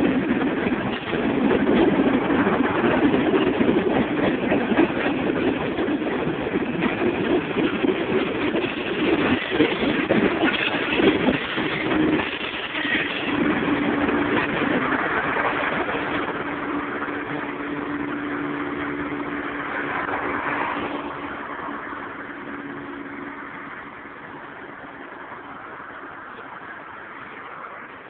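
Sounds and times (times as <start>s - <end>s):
train engine hum: 0.0s - 28.0s
train rolling on rails: 0.0s - 28.0s.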